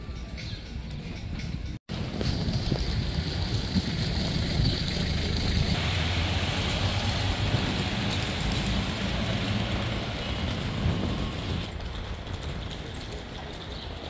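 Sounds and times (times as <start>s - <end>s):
street traffic rumble and hiss: 0.0s - 14.0s.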